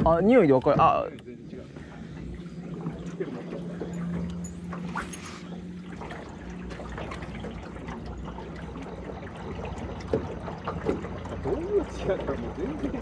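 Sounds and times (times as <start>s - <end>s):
water trickling and lapping: 0.0s - 13.0s
steady low hum: 1.0s - 13.0s.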